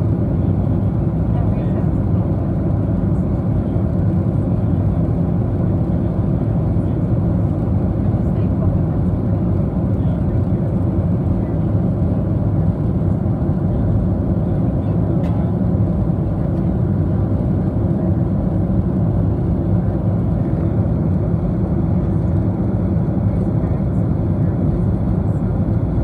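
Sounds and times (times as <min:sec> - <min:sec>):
jet cabin engine rumble: 0:00.0 - 0:26.0.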